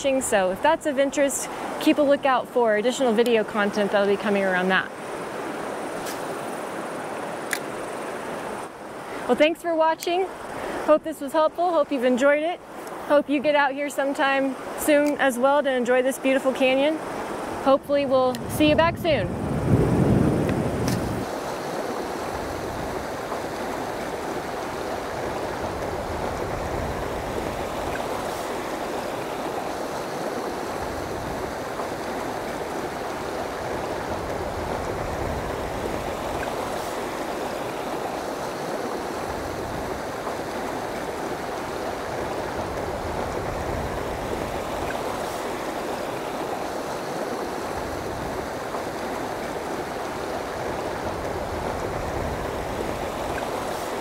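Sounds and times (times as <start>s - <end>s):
river rushing over rocks: 0.1s - 54.0s.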